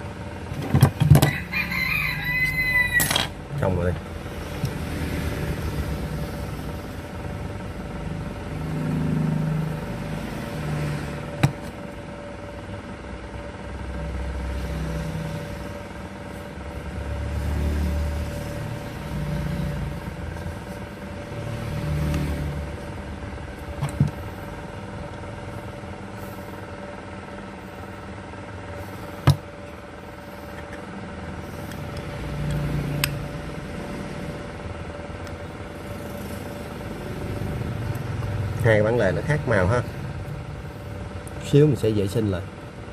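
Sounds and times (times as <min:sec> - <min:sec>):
steady hum: 0:00.0 - 0:42.9
passing vehicle engines: 0:04.1 - 0:12.2, 0:13.5 - 0:29.2, 0:31.4 - 0:42.9.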